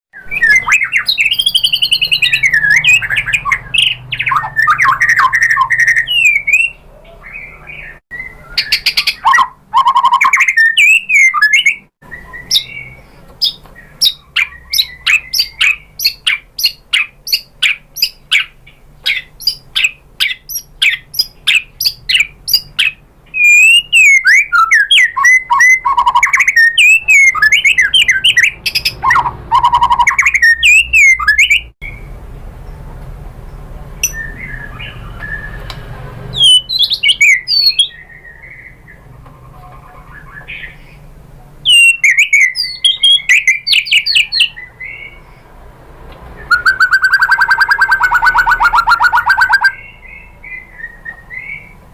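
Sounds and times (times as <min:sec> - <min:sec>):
bird singing whistled phrases: 0:00.2 - 0:32.1, 0:34.0 - 0:35.8, 0:36.4 - 0:39.0, 0:41.7 - 0:45.2, 0:46.4 - 0:51.8.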